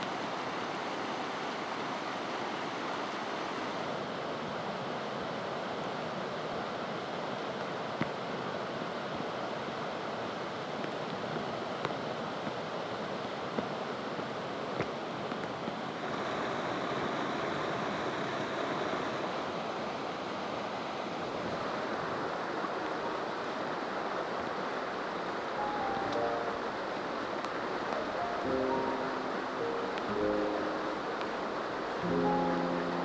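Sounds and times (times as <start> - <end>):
running water rushing: 0.0 - 33.0.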